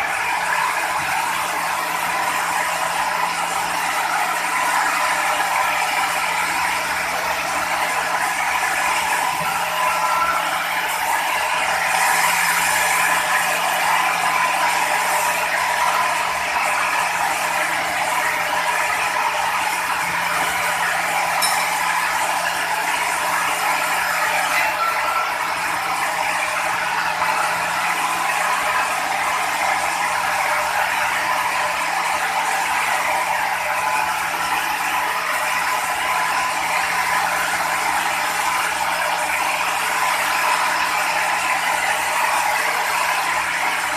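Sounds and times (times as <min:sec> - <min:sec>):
sawmill machinery rattling: 0:00.0 - 0:43.9
steady machine hum: 0:00.0 - 0:43.9.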